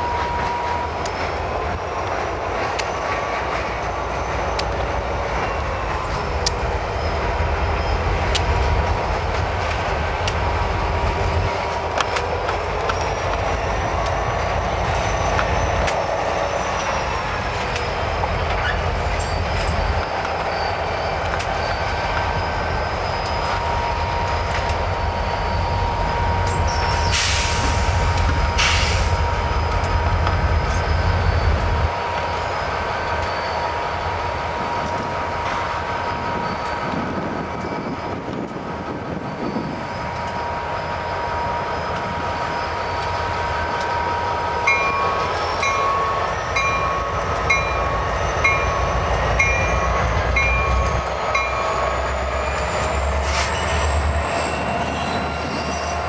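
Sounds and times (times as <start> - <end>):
locomotive engines rumbling: 0.0 - 56.0
wheel squeal: 2.6 - 9.0, 10.8 - 56.0.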